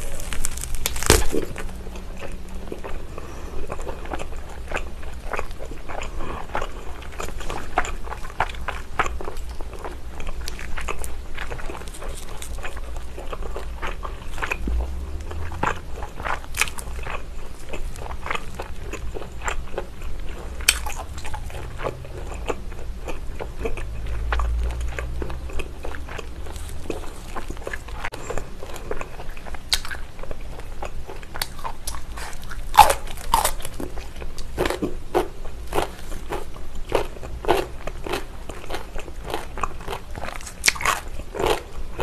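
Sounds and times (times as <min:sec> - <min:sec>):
wet chewing with mouth clicks: 0:00.0 - 0:42.0.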